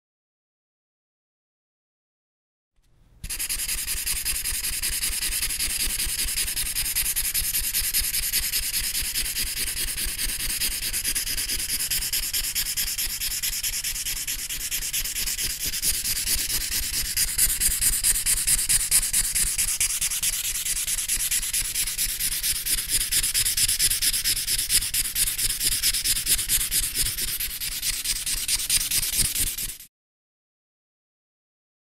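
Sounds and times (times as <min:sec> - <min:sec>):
marker scratching on paper: 0:03.2 - 0:29.9.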